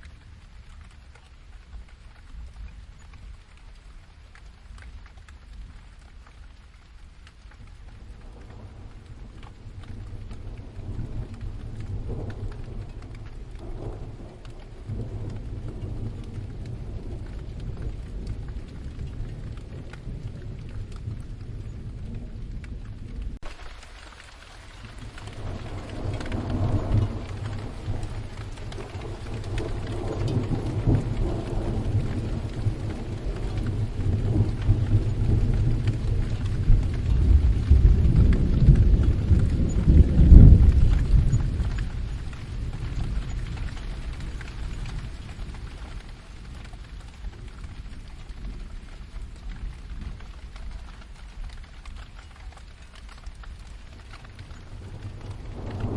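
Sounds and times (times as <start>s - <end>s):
steady rain: 0.0s - 55.9s
rolling thunder: 8.0s - 23.8s, 24.6s - 55.9s.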